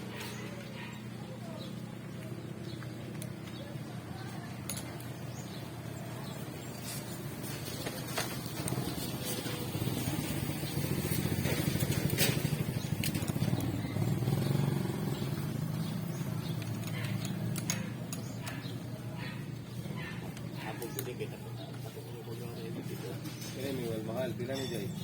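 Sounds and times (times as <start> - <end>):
motorcycle engine running: 0.1 - 22.3.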